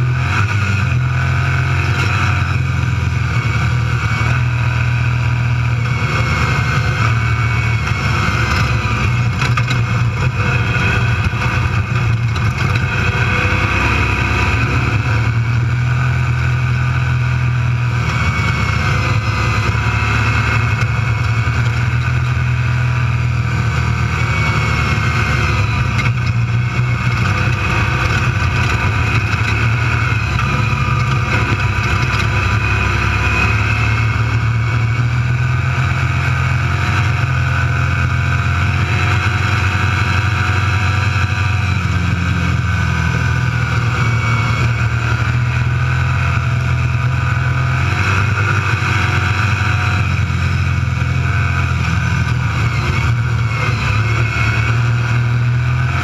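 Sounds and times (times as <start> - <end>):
drivetrain and road noise: 0.0 - 56.0
race car engine running: 0.0 - 56.0.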